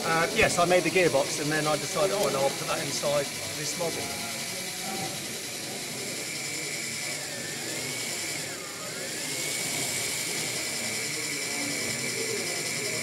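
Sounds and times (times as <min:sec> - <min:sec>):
gears whirring: 0:00.0 - 0:13.0
small electric motor whining: 0:00.0 - 0:13.0.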